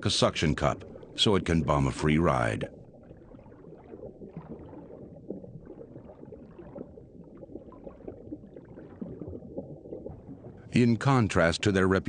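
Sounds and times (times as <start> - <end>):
gurgling water: 0.0 - 12.0
low steady hum: 0.0 - 12.0
underwater crackling: 0.0 - 12.0.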